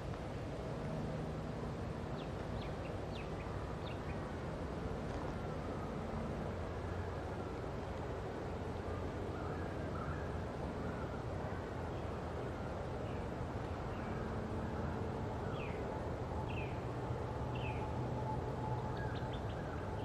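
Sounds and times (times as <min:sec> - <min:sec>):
distant locomotive engine rumble: 0:00.0 - 0:20.0.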